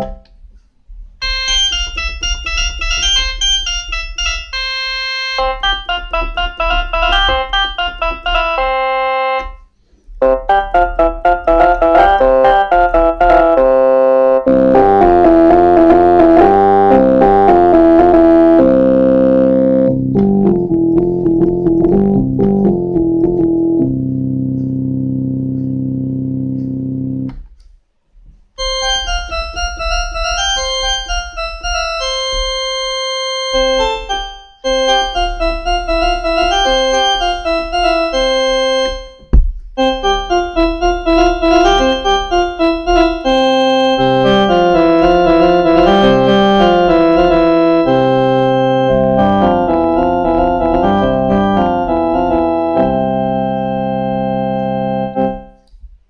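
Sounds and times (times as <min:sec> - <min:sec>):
bright keyboard melody: 0:00.0 - 0:00.4, 0:01.2 - 0:27.5, 0:28.6 - 0:55.7
keyboard held chords: 0:00.0 - 0:27.8, 0:28.6 - 0:55.8
keyboard quick notes: 0:01.2 - 0:27.4, 0:28.6 - 0:55.6.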